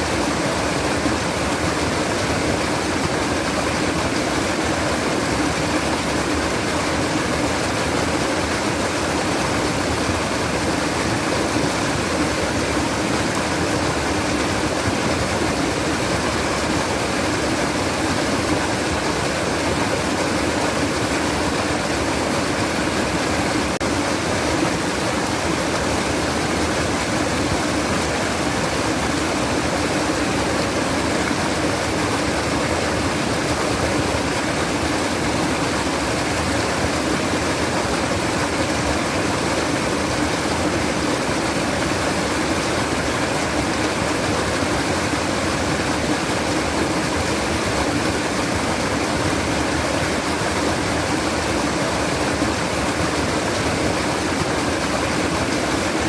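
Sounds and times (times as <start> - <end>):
water trickling and babbling: 0.0 - 56.0.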